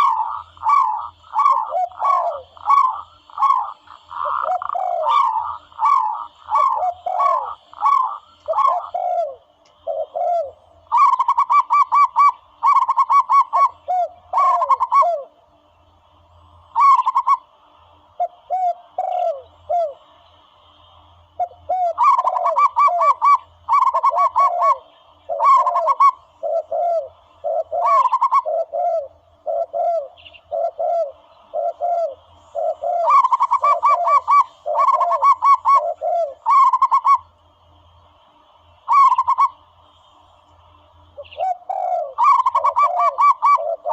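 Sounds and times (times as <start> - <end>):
dove cooing: 0.0 - 15.4, 16.7 - 37.4, 38.8 - 39.8, 41.1 - 43.9.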